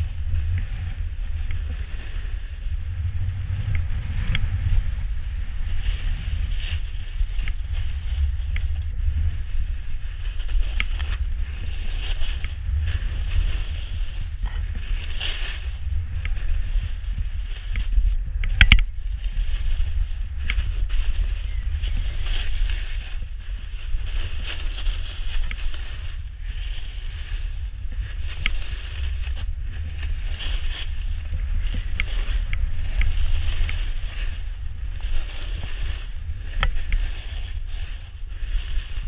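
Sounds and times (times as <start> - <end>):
snowboard scraping over snow: 0.0 - 18.3, 18.9 - 39.0
low wind rumble on microphone: 0.0 - 39.0.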